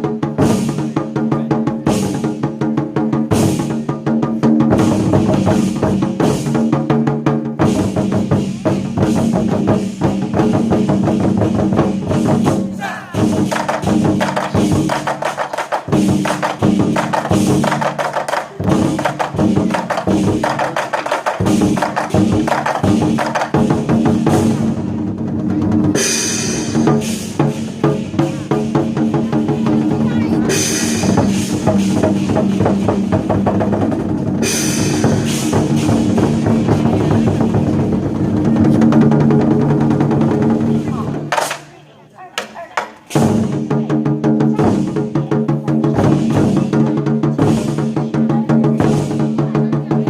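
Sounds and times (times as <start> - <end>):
war drums beaten fast: 0.0 - 41.6, 42.4 - 50.0.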